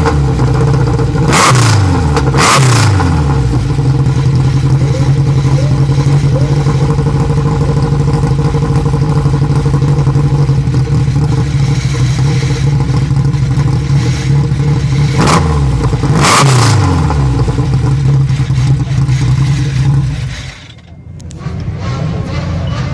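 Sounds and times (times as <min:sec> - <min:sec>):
car engine idling and blipped: 0:00.0 - 0:22.9.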